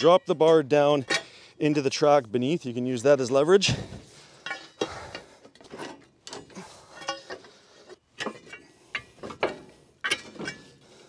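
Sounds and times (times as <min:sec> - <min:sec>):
pry bar scraping and clanking metal: 0:00.0 - 0:02.0, 0:03.7 - 0:11.0.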